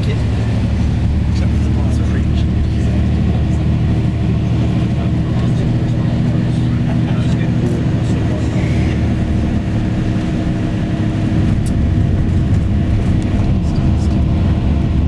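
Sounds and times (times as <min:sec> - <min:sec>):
coach engine hum: 0:00.0 - 0:15.0
road noise: 0:00.0 - 0:15.0.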